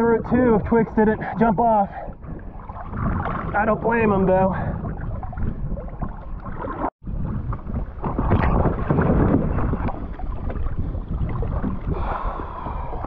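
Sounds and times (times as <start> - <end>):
wind noise: 0.0 - 13.0
small water splashes: 1.9 - 13.0.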